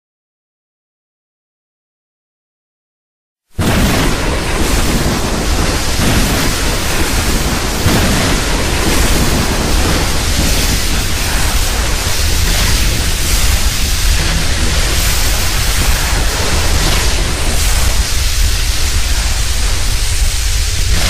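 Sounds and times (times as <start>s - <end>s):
loud rushing noise: 3.6s - 21.0s.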